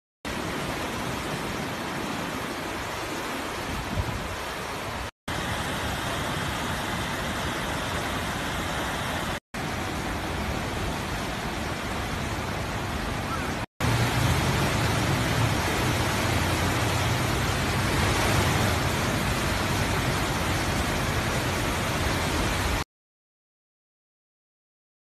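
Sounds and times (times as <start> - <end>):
river floodwater rushing: 0.3 - 22.8.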